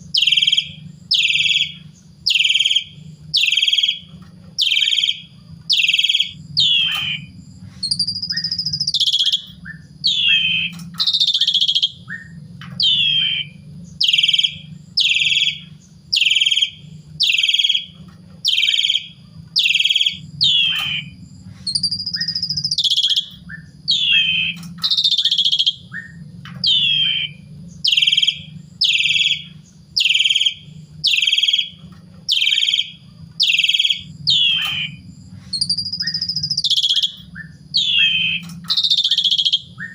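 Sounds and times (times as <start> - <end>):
low steady hum: 0.0 - 39.9
starling singing harsh calls: 0.0 - 39.9.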